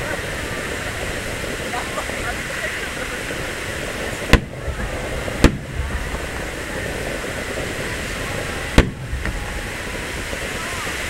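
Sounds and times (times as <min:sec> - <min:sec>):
firework shells bursting: 0:00.0 - 0:11.0
steady background noise: 0:00.0 - 0:11.0.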